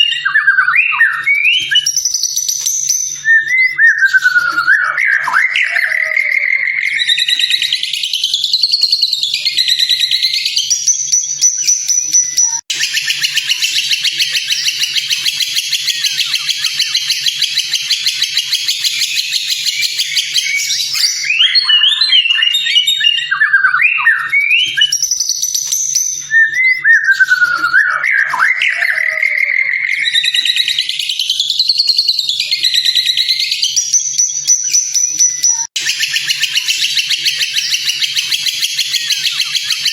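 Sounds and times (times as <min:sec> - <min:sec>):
bird whistling song: 0:00.0 - 0:39.9.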